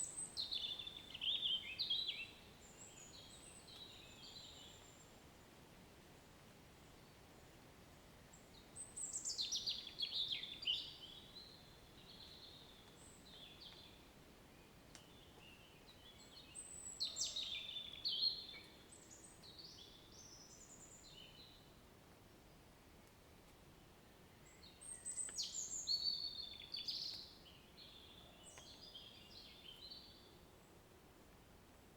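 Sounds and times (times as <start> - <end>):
songbird singing: 0.0 - 5.2, 8.3 - 23.2, 23.8 - 30.8
faint hiss: 0.0 - 31.9.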